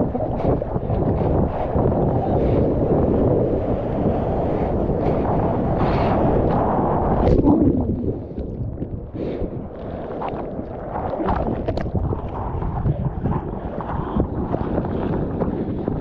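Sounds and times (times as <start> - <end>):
wind and surf rumble: 0.0 - 16.0.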